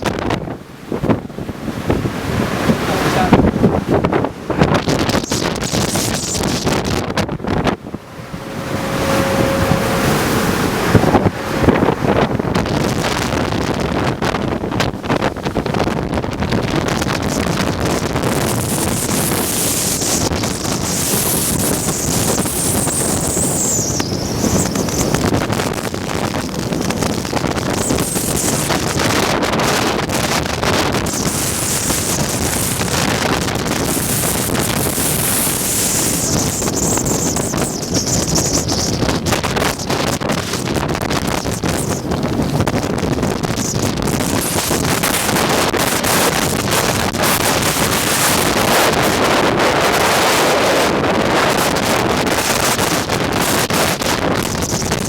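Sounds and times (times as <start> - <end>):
sea wash: 0.0 - 55.0
strong wind on microphone: 0.0 - 55.0.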